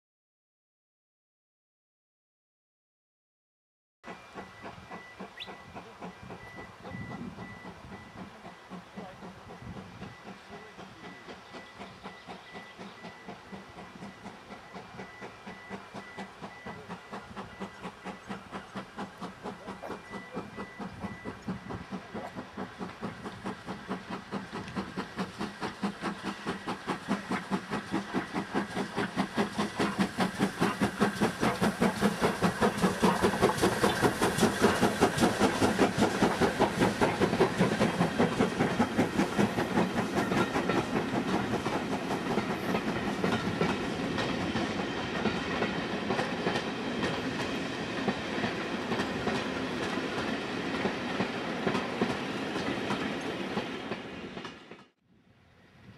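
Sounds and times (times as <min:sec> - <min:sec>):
train wheels clacking over rail joints: 0:04.1 - 0:55.0
steam locomotive exhaust beats: 0:04.1 - 0:55.9.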